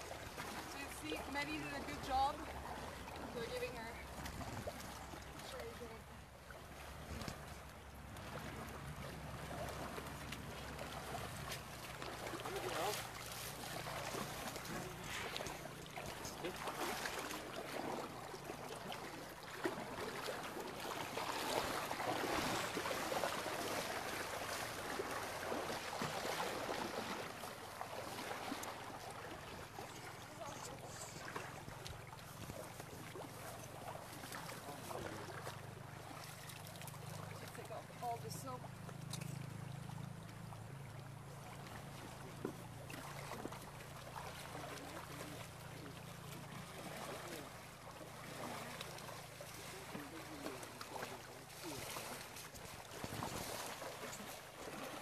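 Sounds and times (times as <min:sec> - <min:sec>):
river water splashing: 0:00.0 - 0:55.0.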